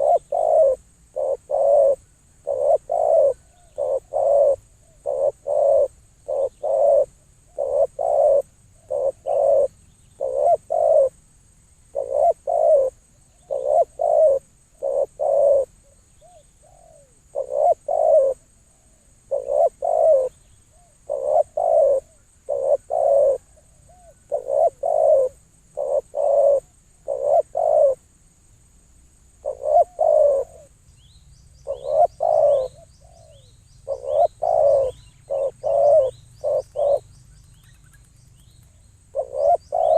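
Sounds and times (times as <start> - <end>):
dove cooing: 0.0 - 11.2, 11.9 - 28.0, 29.4 - 30.7, 31.6 - 37.8, 38.6 - 39.9
small bird chirping: 0.0 - 11.2, 11.9 - 28.0, 29.4 - 39.9.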